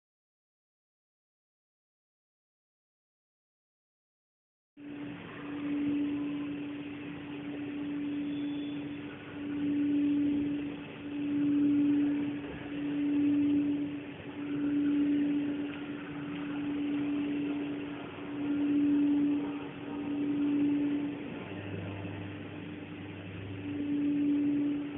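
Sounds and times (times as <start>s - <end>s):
steady low hum: 4.8s - 24.9s.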